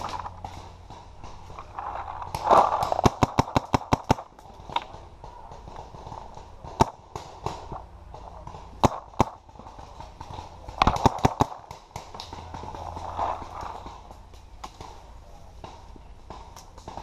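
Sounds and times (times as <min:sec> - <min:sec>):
paintball markers firing: 0:00.0 - 0:17.0.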